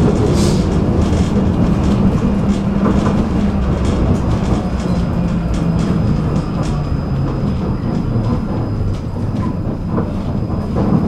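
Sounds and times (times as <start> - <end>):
tram wheels rumbling on rails: 0.0 - 11.0
wheels clicking over rail joints: 0.0 - 11.0.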